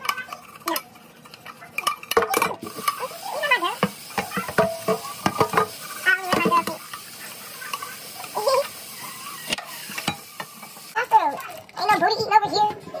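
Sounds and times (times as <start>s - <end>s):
pot clattering in a steel sink: 0.0s - 8.8s, 9.4s - 11.5s.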